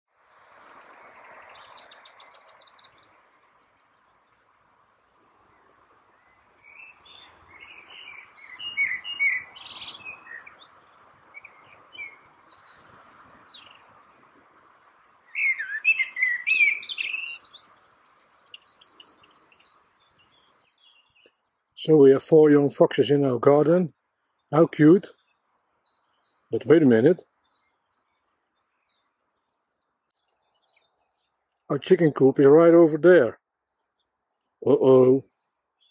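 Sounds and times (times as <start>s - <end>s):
faint background noise: 0.1s - 35.9s
songbirds singing: 0.1s - 35.9s.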